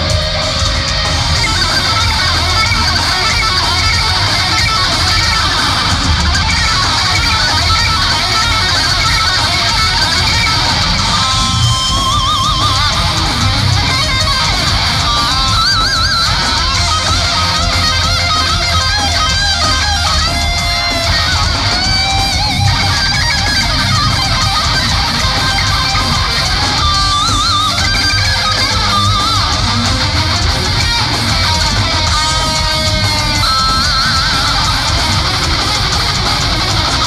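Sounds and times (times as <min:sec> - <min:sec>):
lead guitar with vibrato: 0:00.0 - 0:37.0
metal band playing live: 0:00.0 - 0:37.0.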